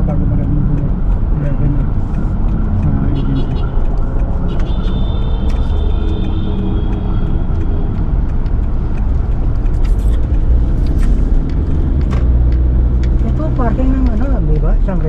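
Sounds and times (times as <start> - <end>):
car engine and tyre noise: 0.0 - 15.0.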